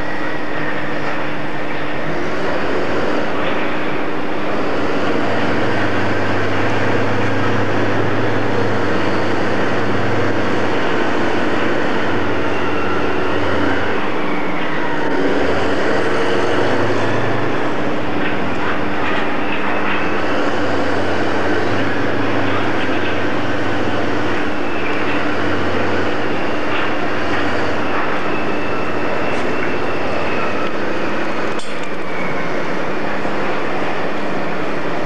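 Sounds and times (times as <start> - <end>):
diesel locomotive engine droning: 0.0 - 35.0.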